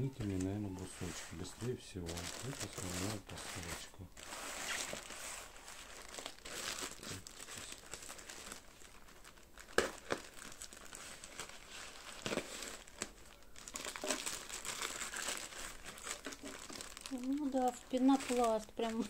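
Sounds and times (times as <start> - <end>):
plastic wrapping rustling: 0.0 - 19.0
sharp plastic crackles: 2.0 - 19.0.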